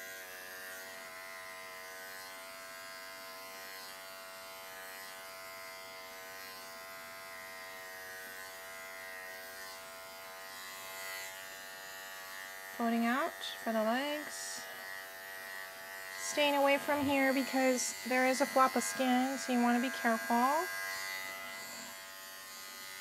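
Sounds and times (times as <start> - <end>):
pet clipper buzzing: 0.0 - 23.0.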